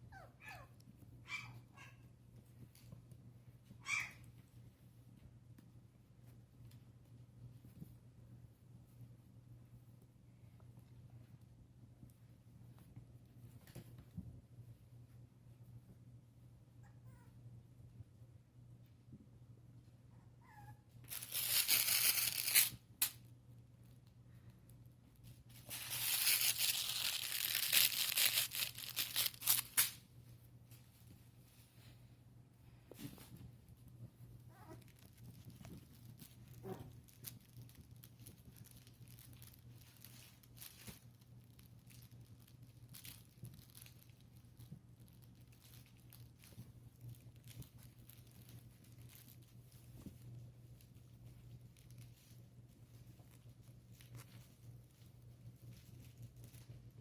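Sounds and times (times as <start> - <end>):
low steady hum: 0.0 - 57.0
puppies pawing at fabric: 0.5 - 16.4, 25.1 - 57.0.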